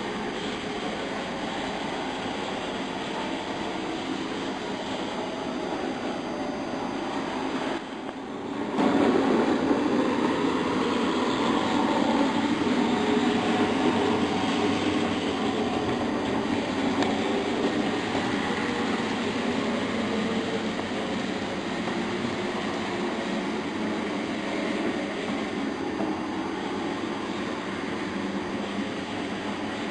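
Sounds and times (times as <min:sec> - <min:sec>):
model trains rumbling: 0:00.0 - 0:29.9.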